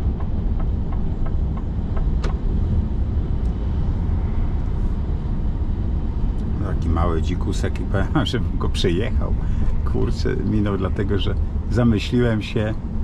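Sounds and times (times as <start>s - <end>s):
engine and road noise in cab: 0.0s - 13.0s.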